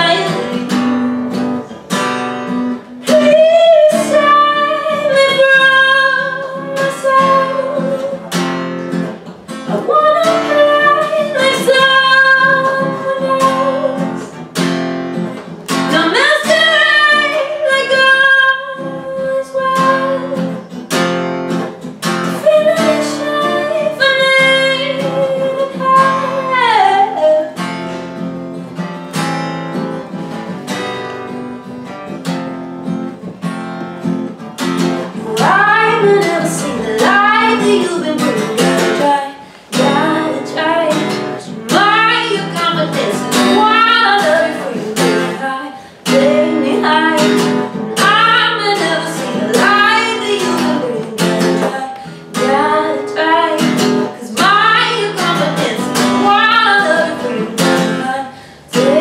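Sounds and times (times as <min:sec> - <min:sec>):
woman singing: 0:00.0 - 0:01.8, 0:02.5 - 0:14.4, 0:15.4 - 0:20.9, 0:21.5 - 0:27.8, 0:34.6 - 0:59.0
strummed acoustic guitar: 0:00.0 - 0:59.0.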